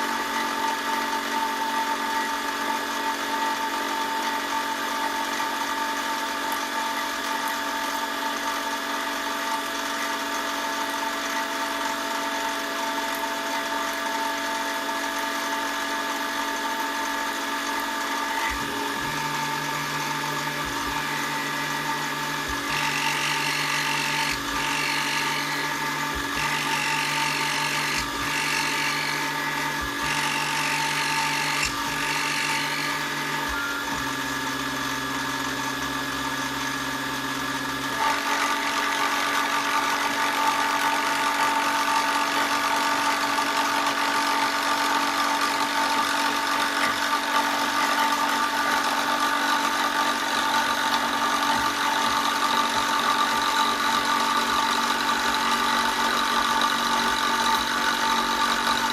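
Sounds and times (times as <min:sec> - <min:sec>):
power tool whining: 0:00.0 - 0:58.9.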